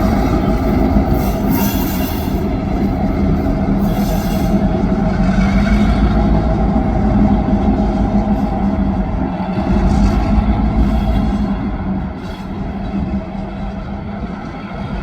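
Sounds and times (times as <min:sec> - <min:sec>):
diesel locomotive engine humming: 0:00.0 - 0:15.0.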